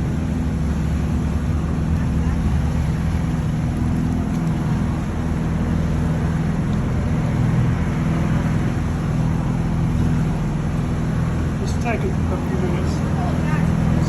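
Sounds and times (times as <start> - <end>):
motorboat engine hum: 0.0 - 14.0
rushing water noise: 0.0 - 14.0.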